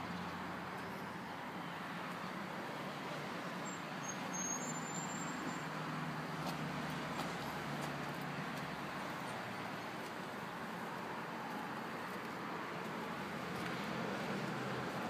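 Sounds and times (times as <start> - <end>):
road traffic hiss: 0.0 - 15.0.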